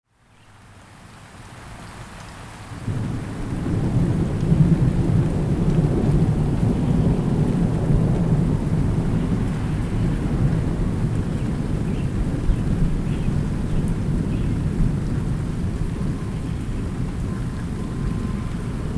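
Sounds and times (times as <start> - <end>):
deep thunder rumble: 2.9 - 18.9.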